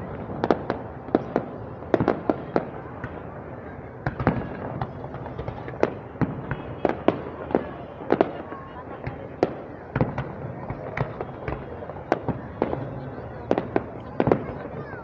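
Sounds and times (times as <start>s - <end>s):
crowd chatter: 0.0s - 15.0s
fireworks bangs: 0.0s - 15.0s.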